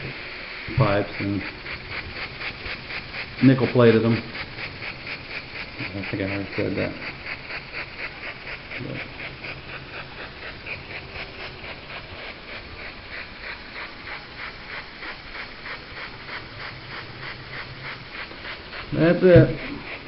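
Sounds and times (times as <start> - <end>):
steam engine exhaust chuffing: 0.0 - 20.0.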